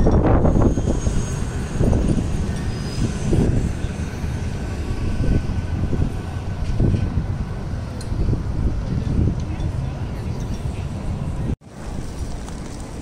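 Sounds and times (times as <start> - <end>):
outdoor city ambience: 0.0 - 13.0
wind buffeting microphone: 0.0 - 13.0.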